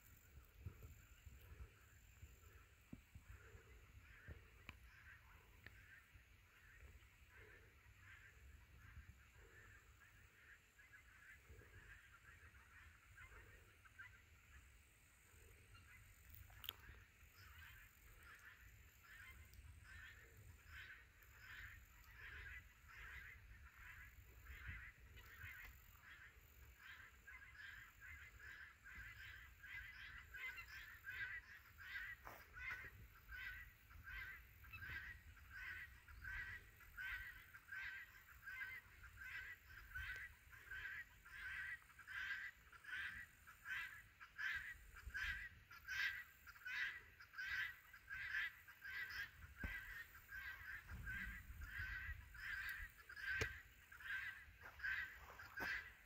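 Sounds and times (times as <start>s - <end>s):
faint bird calls: 0.0s - 56.0s.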